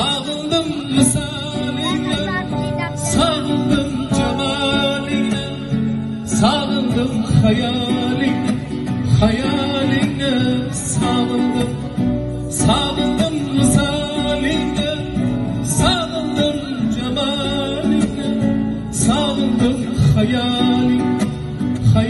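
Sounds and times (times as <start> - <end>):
acoustic guitar: 0.0 - 22.0
keyboard: 0.0 - 22.0
live pop band over speakers: 0.0 - 22.0.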